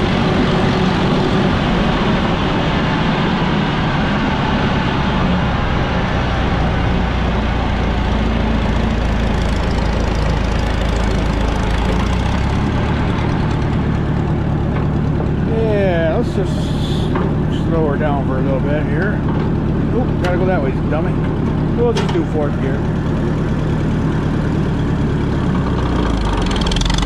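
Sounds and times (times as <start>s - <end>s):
tractor engine droning: 0.0s - 27.0s.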